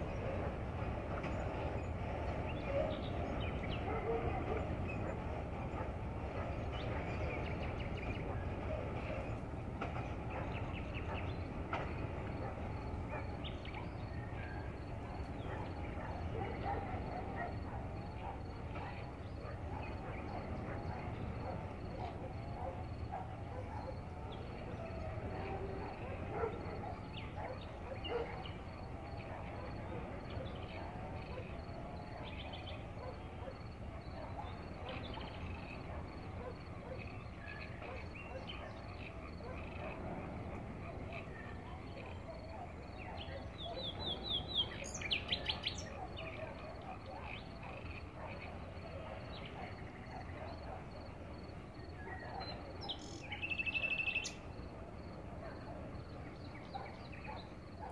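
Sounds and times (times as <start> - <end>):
crickets chirping: 0.0 - 57.9
frogs calling: 2.6 - 57.9.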